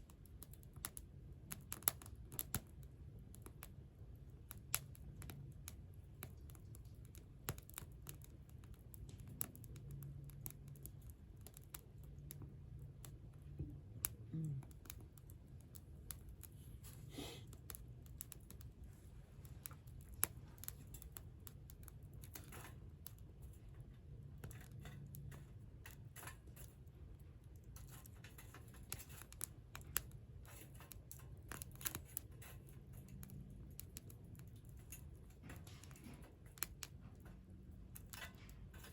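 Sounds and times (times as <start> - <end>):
campfire crackling and popping: 0.0 - 38.8.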